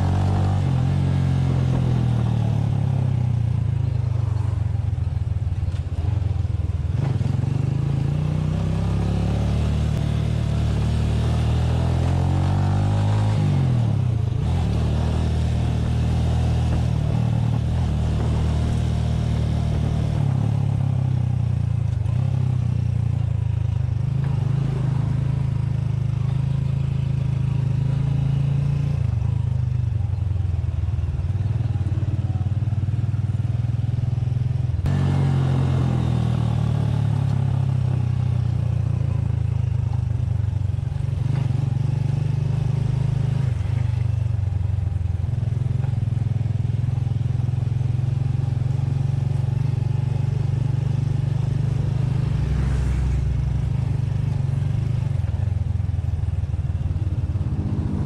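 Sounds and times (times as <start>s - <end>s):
motorcycle engine revving: 0.0s - 4.6s, 6.8s - 29.6s, 31.5s - 58.0s.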